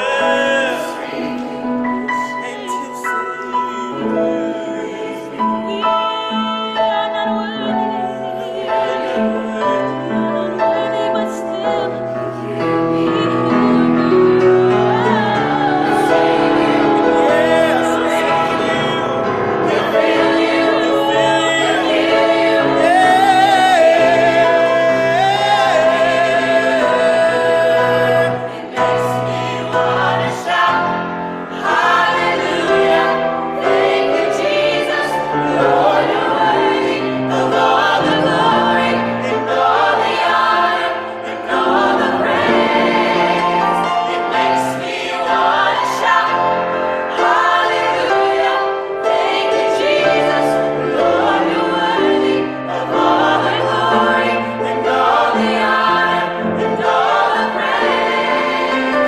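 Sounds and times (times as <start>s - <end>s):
vocal ensemble singing gospel: 0.0s - 59.0s.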